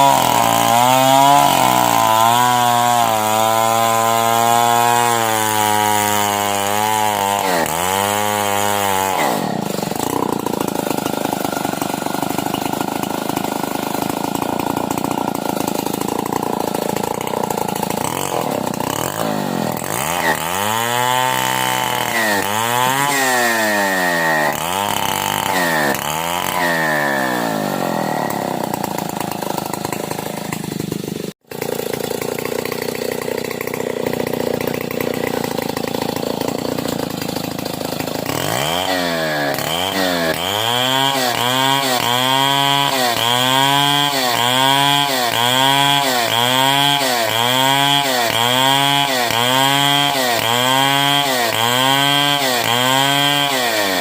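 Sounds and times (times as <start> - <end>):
chainsaw ripping wood: 0.0 - 54.0.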